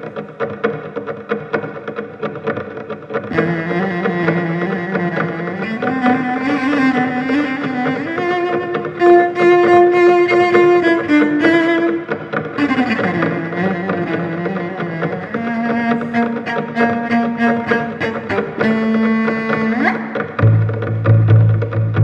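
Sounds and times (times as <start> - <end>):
cello long bowed notes: 0.0 - 22.0.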